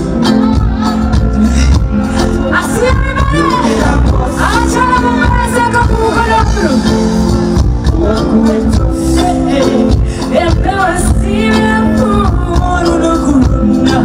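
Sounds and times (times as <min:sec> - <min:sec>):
live band music: 0:00.0 - 0:14.0.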